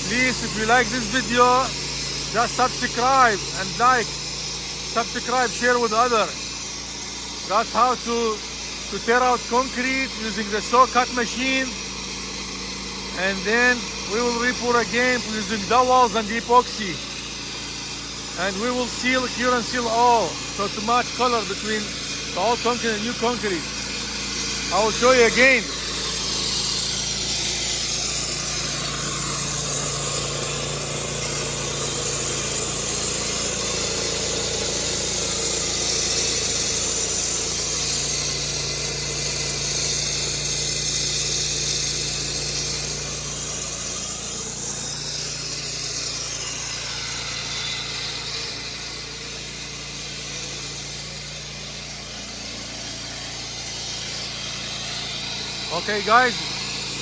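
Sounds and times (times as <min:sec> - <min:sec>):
concrete saw running: 0:00.0 - 0:57.0.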